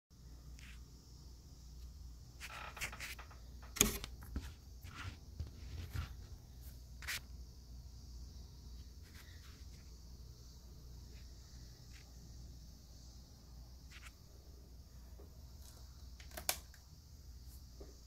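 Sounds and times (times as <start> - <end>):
faint steady hiss: 0.2 - 18.0.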